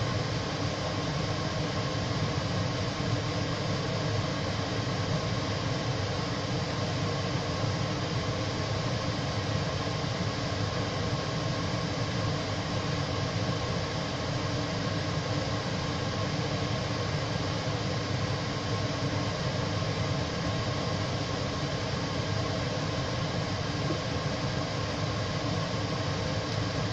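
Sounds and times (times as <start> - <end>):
hob cooling fan running: 0.0 - 26.9
pan simmering with rushing noise: 0.0 - 26.9.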